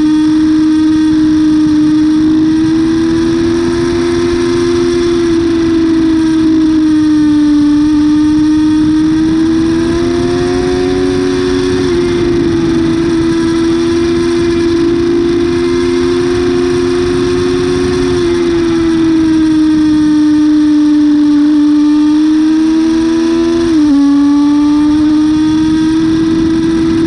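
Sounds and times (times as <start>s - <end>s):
motorcycle engine at high revs: 0.0s - 27.0s
wind rush over microphone: 0.0s - 27.0s.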